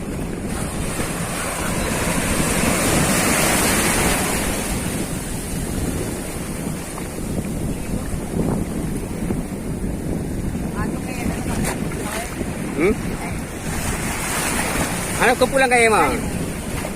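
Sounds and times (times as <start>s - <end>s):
waves washing: 0.0s - 16.9s
wind buffeting microphone: 0.0s - 16.9s.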